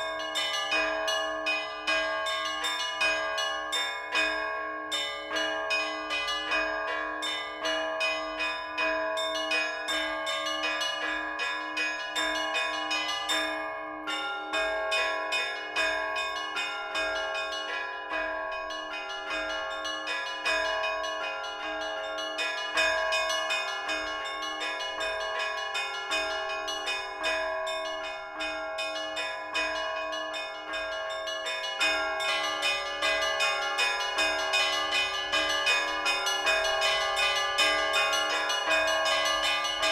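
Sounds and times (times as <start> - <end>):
low bell steady beat: 0.0 - 39.9
small bells struck quickly: 0.0 - 39.9.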